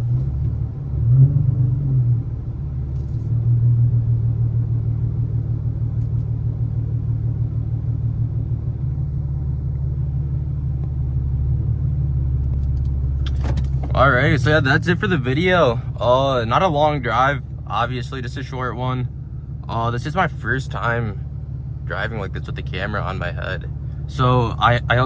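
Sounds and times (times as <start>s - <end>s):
car exhaust droning: 0.0s - 25.0s.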